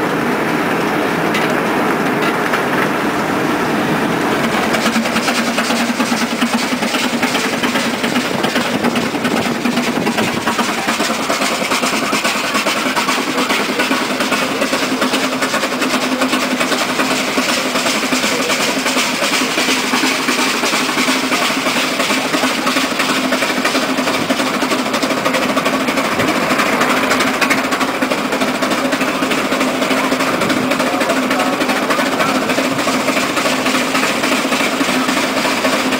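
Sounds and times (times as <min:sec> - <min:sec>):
steam road locomotive clattering: 0:00.0 - 0:35.9.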